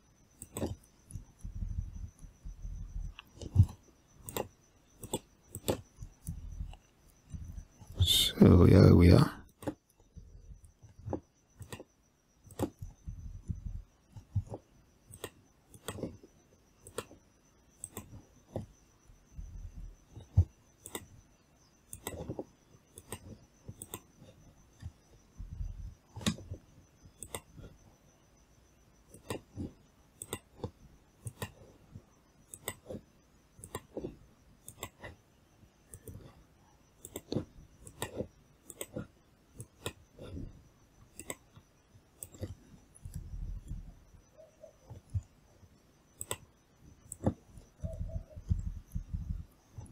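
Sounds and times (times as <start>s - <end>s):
computer mouse clicks: 0.3s - 8.0s, 9.5s - 17.2s, 17.8s - 18.8s, 20.0s - 21.2s, 21.8s - 27.8s, 29.1s - 35.2s, 35.8s - 49.9s.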